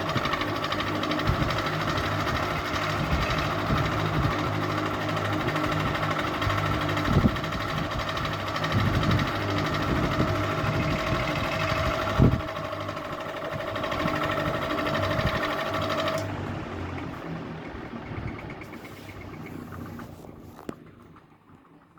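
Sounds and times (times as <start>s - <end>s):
fan whine: 0.0s - 21.4s
ceiling fan motor hum: 0.0s - 21.8s.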